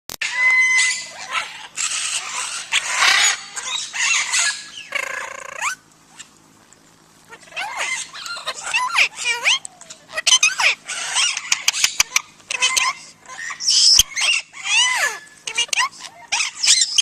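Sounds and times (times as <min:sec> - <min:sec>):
parrot squawking: 0:00.2 - 0:06.3, 0:07.3 - 0:17.0.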